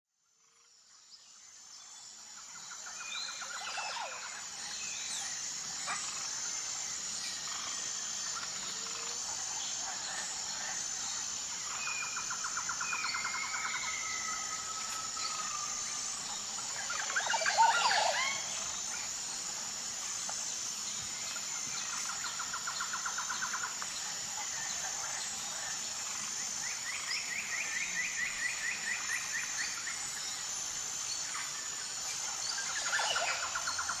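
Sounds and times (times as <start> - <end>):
pulsing insect drone: 0.2 - 34.0.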